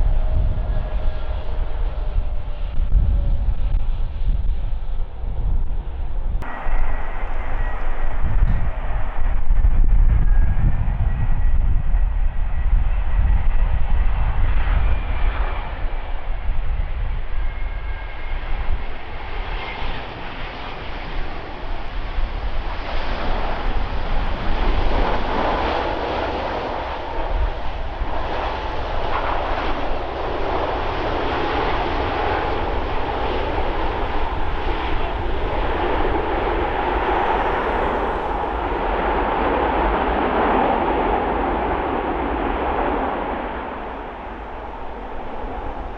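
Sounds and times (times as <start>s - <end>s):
jet engines roaring: 0.0s - 45.9s.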